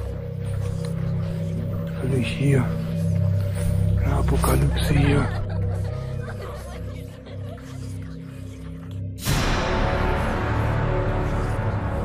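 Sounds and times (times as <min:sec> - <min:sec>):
background music with low tones: 0:00.0 - 0:12.0.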